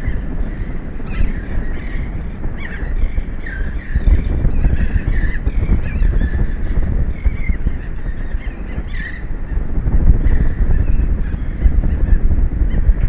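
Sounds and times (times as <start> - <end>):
birds giving harsh calls: 0.0 - 13.0
wind buffeting microphone: 0.0 - 13.0.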